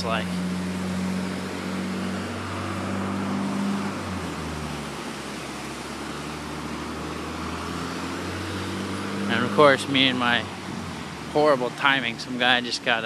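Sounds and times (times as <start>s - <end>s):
steady traffic hiss: 0.0s - 13.0s
vehicle engine hum: 0.0s - 13.0s.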